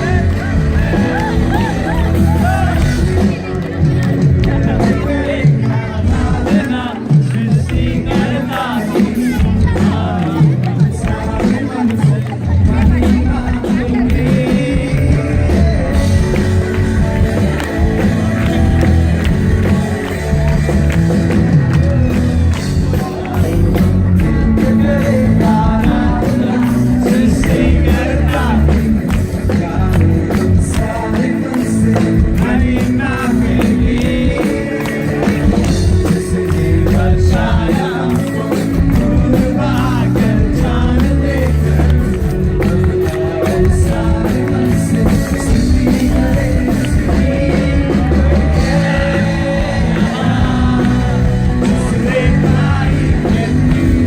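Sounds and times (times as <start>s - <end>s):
heavy bass line: 0.0s - 54.0s
loud band music: 0.0s - 54.0s
person singing: 0.0s - 54.0s.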